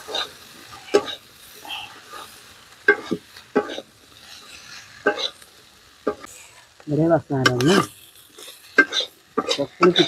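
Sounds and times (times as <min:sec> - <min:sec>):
metal spatula scraping a pan: 0:00.0 - 0:06.6, 0:07.5 - 0:10.0
faint sizzle: 0:00.0 - 0:10.0.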